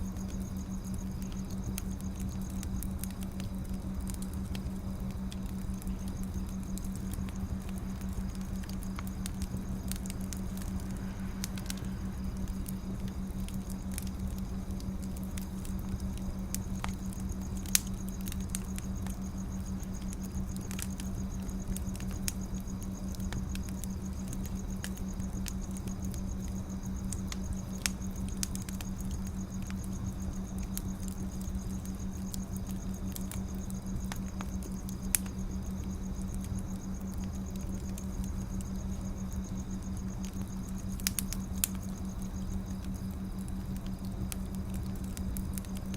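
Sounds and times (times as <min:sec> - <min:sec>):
firewood crackling and popping: 0:00.0 - 0:45.9
steady low hum: 0:00.0 - 0:45.9.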